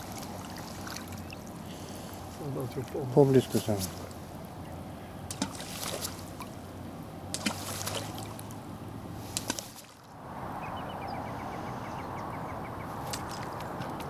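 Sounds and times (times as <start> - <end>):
river water sloshing and trickling: 0.0 - 10.7, 12.7 - 14.0.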